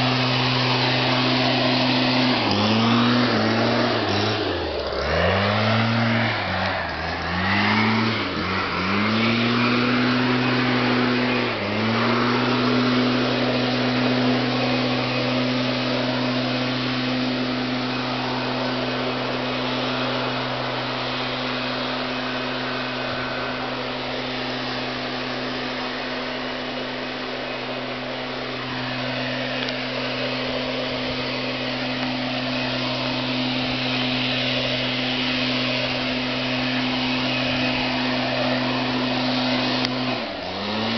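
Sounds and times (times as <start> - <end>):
leaf blower engine running: 0.0 - 40.9.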